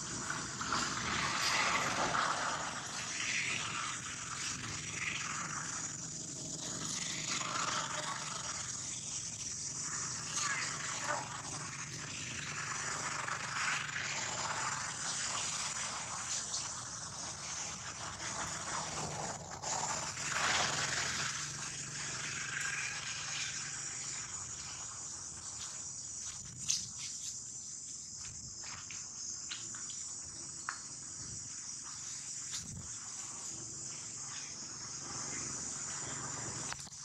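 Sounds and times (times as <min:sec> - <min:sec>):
insects droning: 0:00.0 - 0:37.0.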